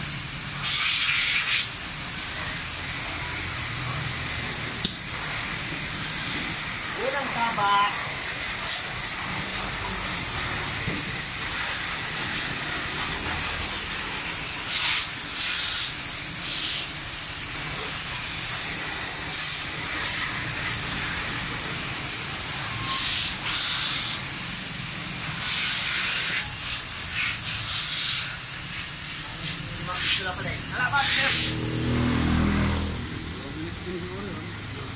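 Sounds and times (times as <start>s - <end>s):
hose water spraying on bike: 0.0s - 34.9s.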